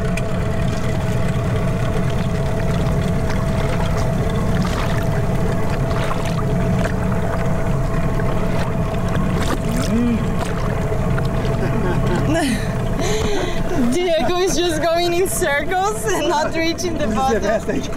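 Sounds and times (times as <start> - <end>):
water splashing: 0.0 - 16.0
boat engine running: 0.0 - 17.9.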